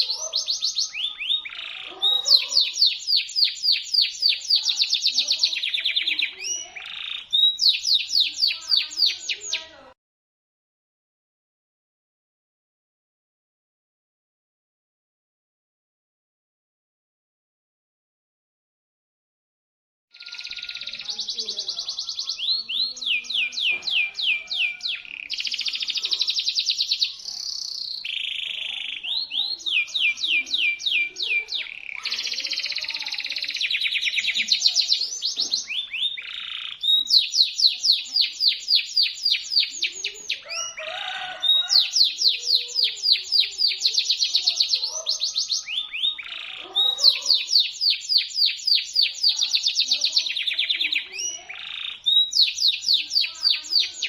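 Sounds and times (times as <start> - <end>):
canary singing fast trills: 0.0 - 10.0, 20.1 - 54.0.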